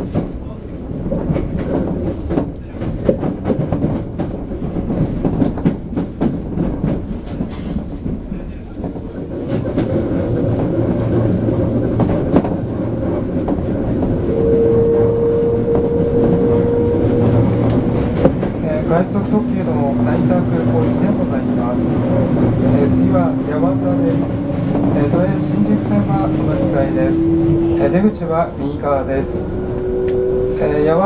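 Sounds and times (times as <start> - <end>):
rail joint clicks: 0.0 - 31.0
train wheels rumbling on rail: 0.0 - 31.0.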